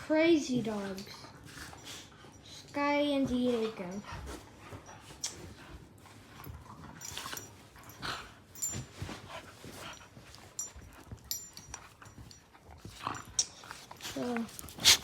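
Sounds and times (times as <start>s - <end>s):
dogs play-fighting: 0.0s - 15.0s.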